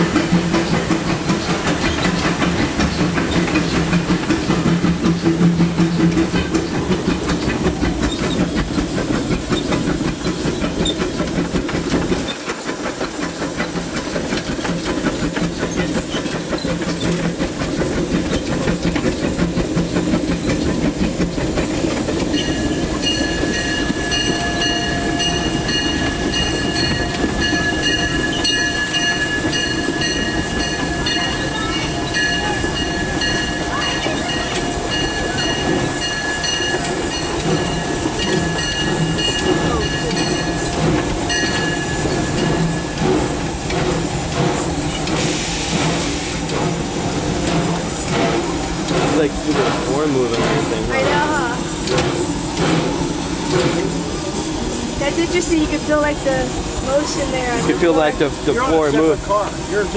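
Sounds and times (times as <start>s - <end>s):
steam hissing: 0.0s - 59.9s
steam locomotive running: 0.0s - 59.9s.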